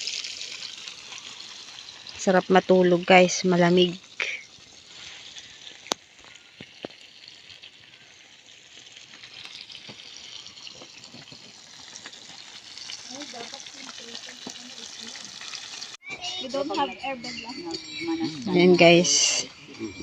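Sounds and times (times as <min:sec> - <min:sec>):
fish sizzling in oil: 0:00.0 - 0:20.0.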